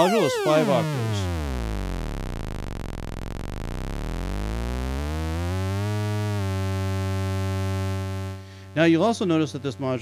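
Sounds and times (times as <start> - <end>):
oscillator pulse wave sweeping: 0.0 - 8.4.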